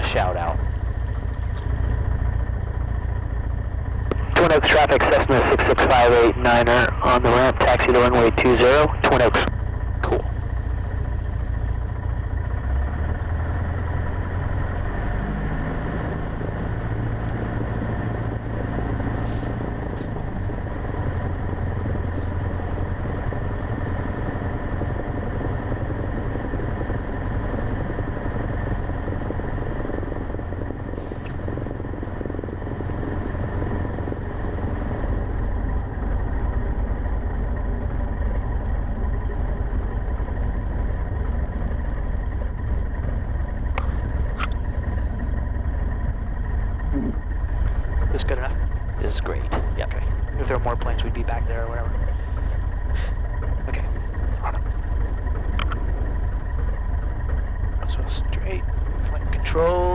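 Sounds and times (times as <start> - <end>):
small plane engine running: 0.0 - 59.9.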